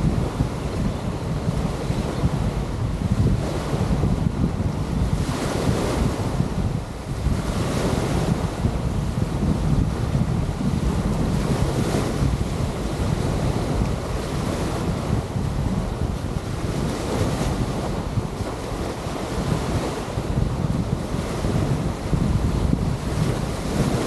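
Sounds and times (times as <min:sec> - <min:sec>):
beach surf: 0:00.0 - 0:24.0
wind buffeting microphone: 0:00.0 - 0:24.0.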